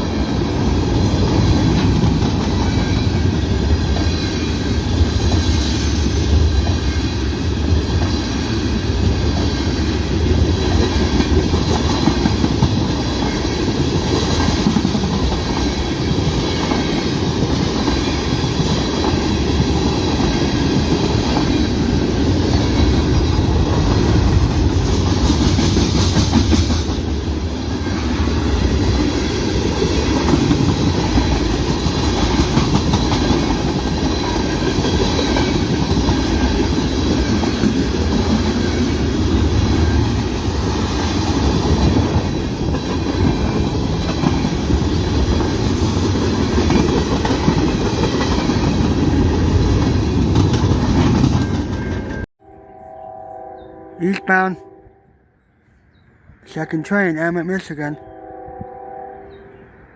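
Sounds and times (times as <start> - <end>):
train wheels rumbling on rails: 0.0 - 52.3.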